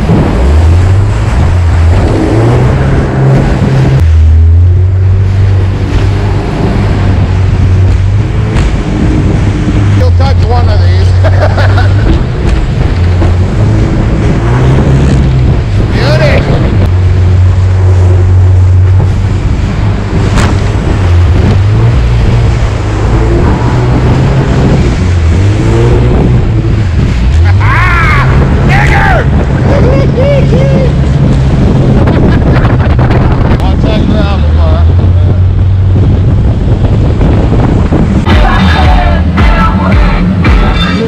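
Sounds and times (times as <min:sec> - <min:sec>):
boat engine running hard: 0:00.0 - 0:41.0
water rushing and spraying: 0:00.0 - 0:41.0
wind buffeting microphone: 0:00.0 - 0:41.0.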